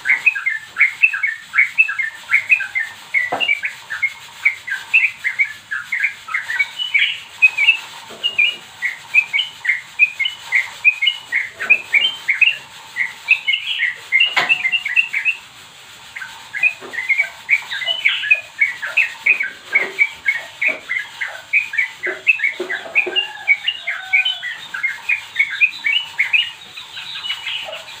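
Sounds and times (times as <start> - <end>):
bird singing bright chirps: 0.0 - 15.5, 16.1 - 28.0.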